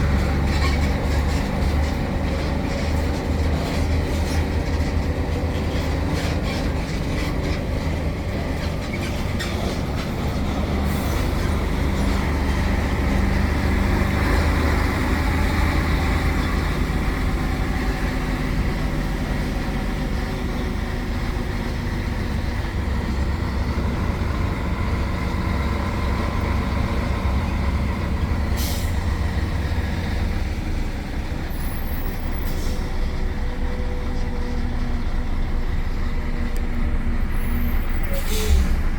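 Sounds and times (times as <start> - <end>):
road noise: 0.0 - 38.9
truck diesel engine driving: 0.0 - 38.9.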